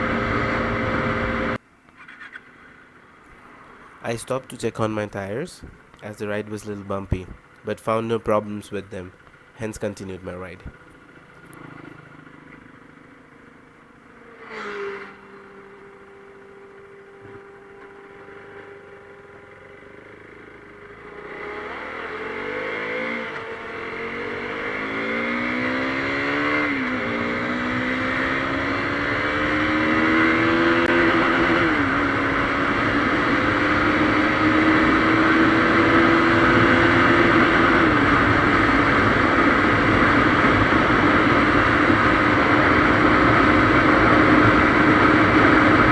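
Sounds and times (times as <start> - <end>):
motorcycle engine revving: 0.0 - 1.6, 10.6 - 45.9.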